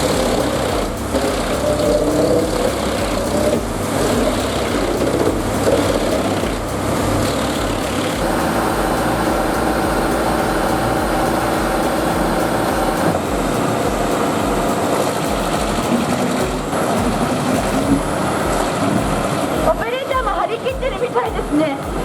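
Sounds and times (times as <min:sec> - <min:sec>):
coarse grinding noise: 0:00.0 - 0:18.4
shredding machine engine drone: 0:00.0 - 0:18.8.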